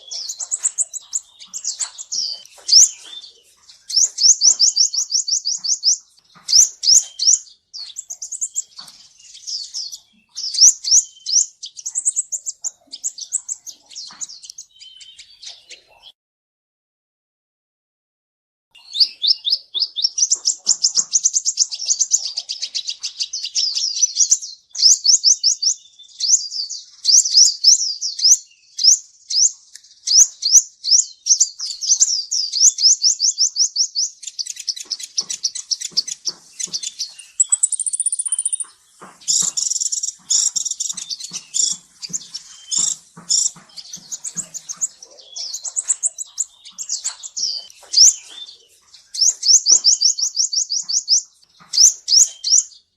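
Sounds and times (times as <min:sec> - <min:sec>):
sunbird twittering trills: 0:00.0 - 0:16.1, 0:18.8 - 0:52.9.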